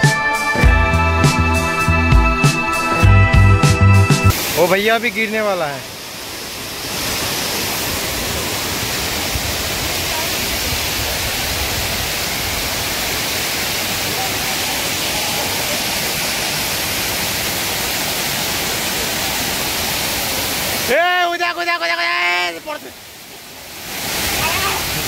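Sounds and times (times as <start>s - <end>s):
waterfall rushing: 4.3s - 25.0s.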